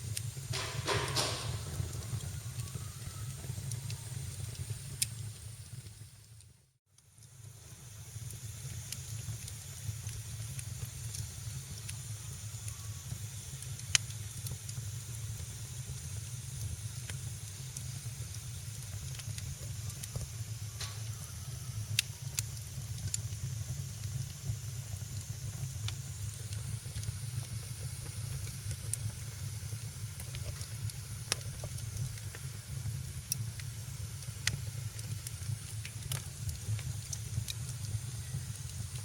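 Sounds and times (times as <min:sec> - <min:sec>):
fire pops: 0:00.0 - 0:06.4, 0:07.2 - 0:39.0
wood fire crackling: 0:00.0 - 0:39.0.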